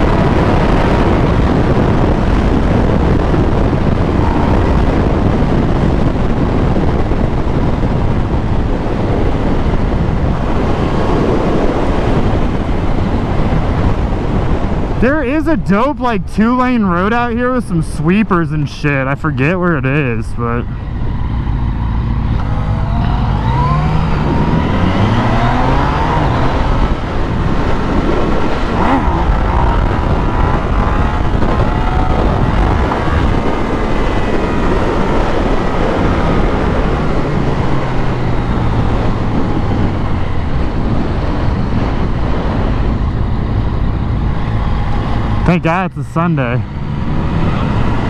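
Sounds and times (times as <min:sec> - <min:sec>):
motorcycle engine: 0:00.0 - 0:15.4, 0:20.0 - 0:48.0
wind rush on microphone: 0:00.0 - 0:48.0.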